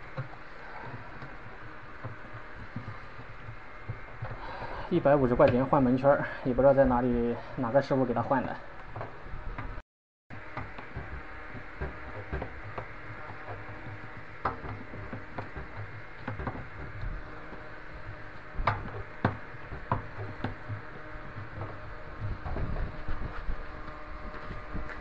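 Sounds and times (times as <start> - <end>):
hands and tools clicking and knocking: 0.0 - 6.0, 10.3 - 25.0
steady low hum: 0.0 - 25.0.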